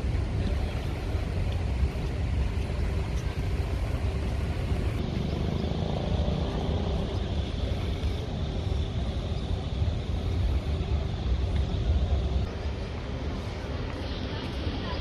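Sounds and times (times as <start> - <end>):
low rumble of city ambience: 0.0 - 15.0.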